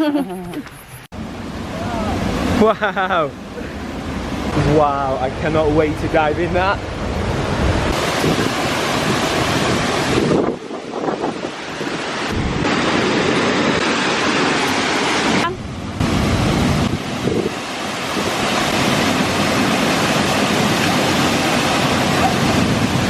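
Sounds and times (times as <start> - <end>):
waterfall and river rushing: 1.2 - 23.0.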